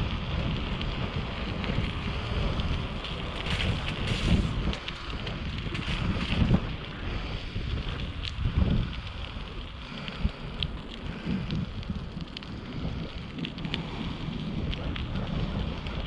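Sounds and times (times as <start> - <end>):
small ticks and crackles: 0.0 - 16.0
wind buffeting microphone: 0.0 - 16.0.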